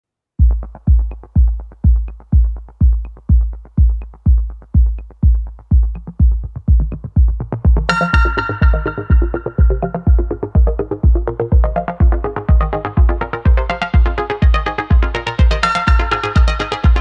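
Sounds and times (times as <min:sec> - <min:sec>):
electronic dance music: 0:00.4 - 0:17.0
fast hi-hat ticks: 0:00.4 - 0:17.0
heavy kick drum: 0:00.4 - 0:17.0.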